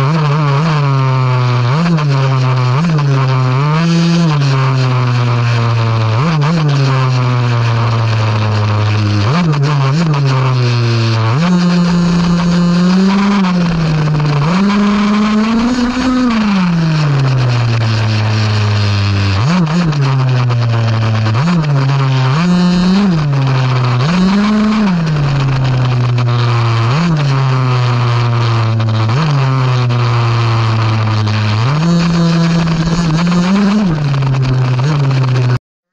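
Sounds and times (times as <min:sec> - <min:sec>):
rc car motor revving: 0:01.6 - 0:35.5.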